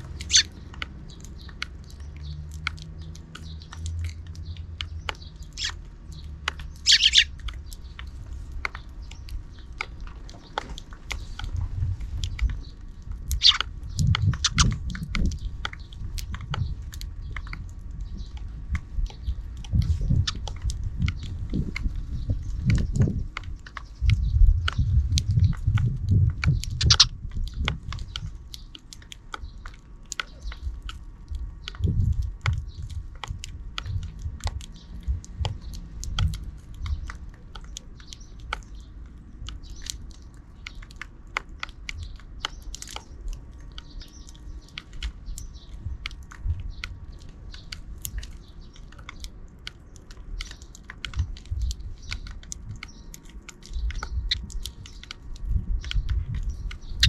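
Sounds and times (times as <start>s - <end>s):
faint sparrow chirps: 0.0s - 41.0s, 41.6s - 57.0s
sparrows clicking and scratching: 0.0s - 57.0s.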